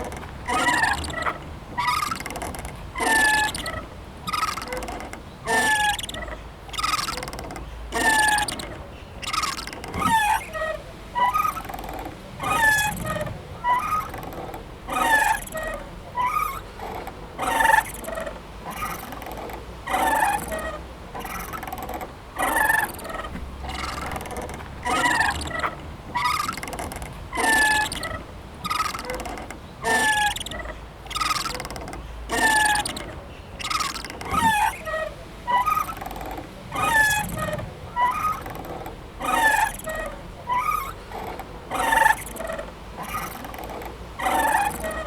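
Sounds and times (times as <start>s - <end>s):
playground swing creaking: 0.0s - 45.0s.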